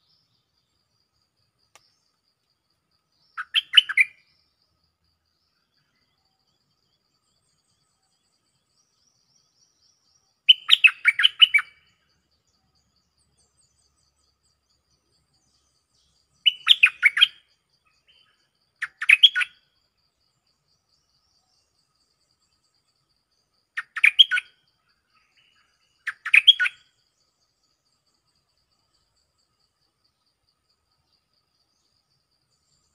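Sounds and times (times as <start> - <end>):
bird singing warbled phrases: 0.0 - 1.0, 3.0 - 32.9.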